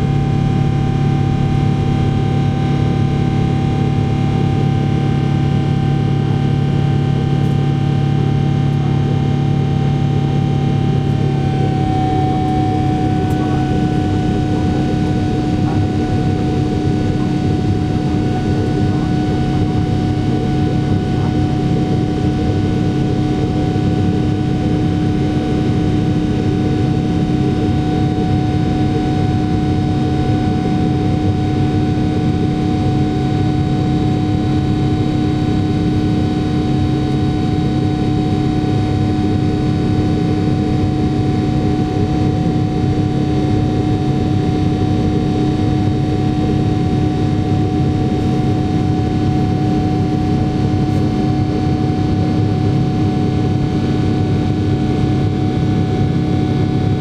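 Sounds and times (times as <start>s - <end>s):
high engine whine: 0.0s - 57.0s
jet engine drone in cabin: 0.0s - 57.0s.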